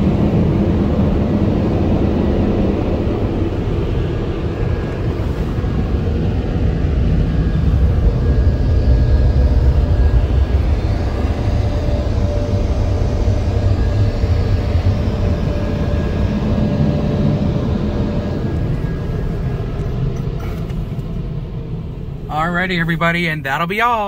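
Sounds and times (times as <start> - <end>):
dryer blowers rushing air: 0.0 - 24.0.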